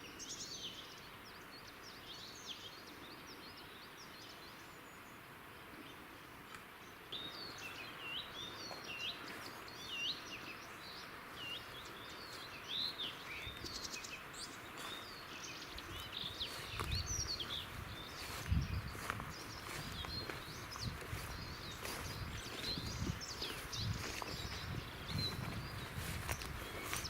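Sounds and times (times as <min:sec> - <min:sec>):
wild birds chirping and singing: 0:00.0 - 0:27.0.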